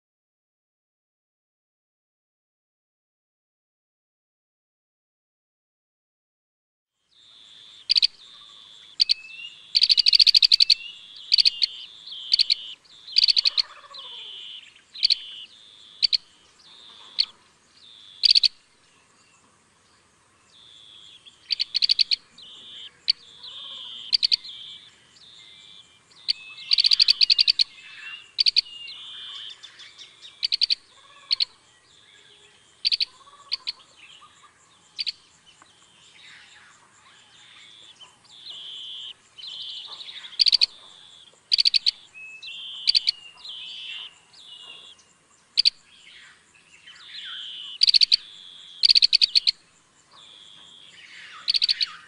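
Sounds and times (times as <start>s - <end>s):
birds chirping: 7.1s - 52.0s.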